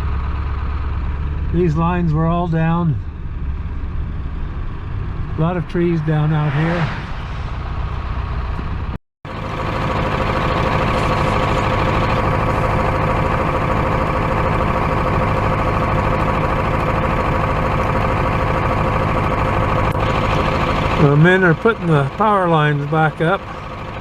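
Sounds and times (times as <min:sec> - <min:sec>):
constant high whine: 0:00.0 - 0:24.0
truck engine idling: 0:00.0 - 0:24.0.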